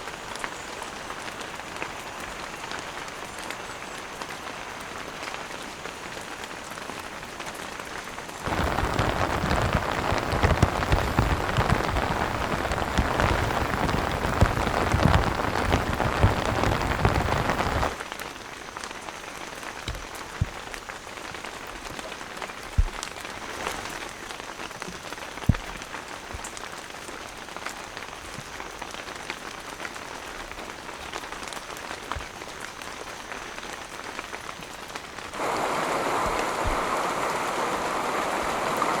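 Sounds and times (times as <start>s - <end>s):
heavier raindrops tapping: 0.0s - 39.0s
heavy rain on a tent: 0.0s - 39.0s.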